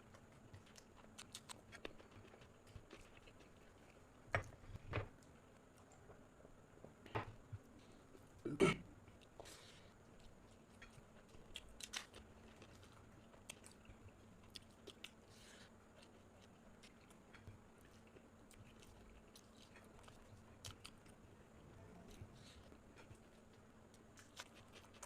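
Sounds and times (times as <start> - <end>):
person chewing food: 0.0 - 6.6, 9.0 - 25.0.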